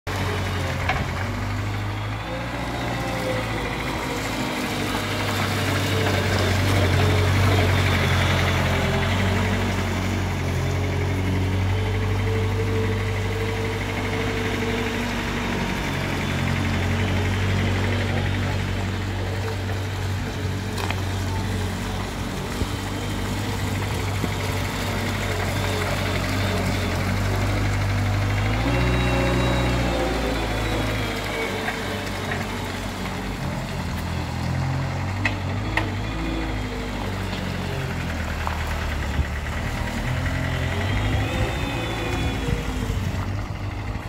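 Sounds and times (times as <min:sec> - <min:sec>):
loader engine running: 0:00.0 - 0:44.0.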